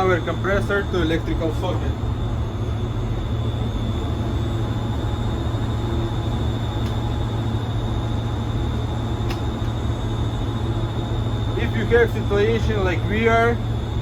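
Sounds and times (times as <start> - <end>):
machinery low hum: 0.0 - 14.0
thin high whine: 0.0 - 14.0.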